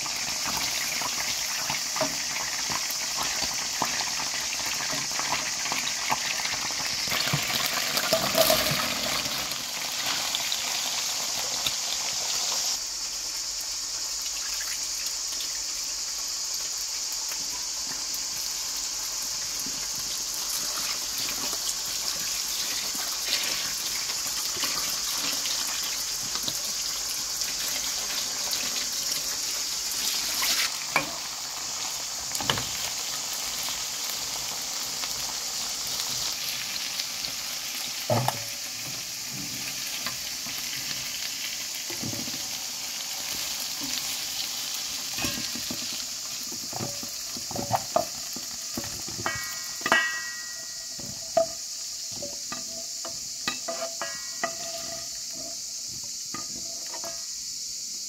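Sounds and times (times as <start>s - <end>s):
oil sizzling in frying pan: 0.0s - 58.0s.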